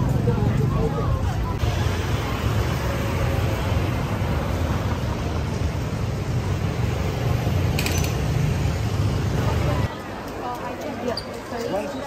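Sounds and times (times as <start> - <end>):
motorbikes riding past: 0.0 - 9.9
low traffic rumble: 0.0 - 12.0.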